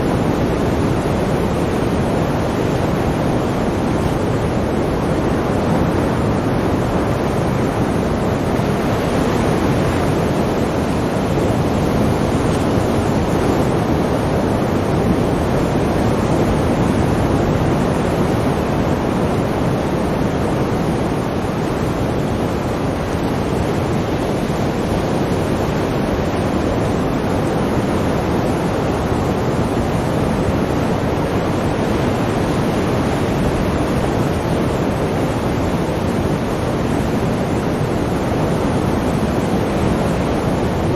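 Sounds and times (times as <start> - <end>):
sea waves washing onto shore: 0.0 - 40.9.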